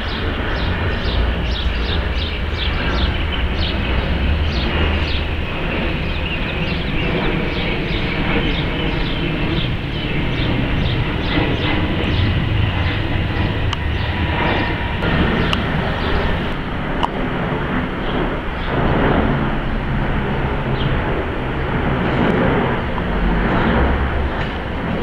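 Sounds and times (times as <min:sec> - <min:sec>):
jet airliner engine rumble: 0:00.0 - 0:25.0.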